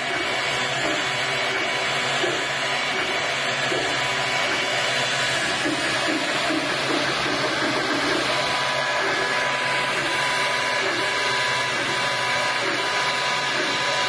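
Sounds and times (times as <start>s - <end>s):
three-d printer motor whir: 0.0s - 14.0s.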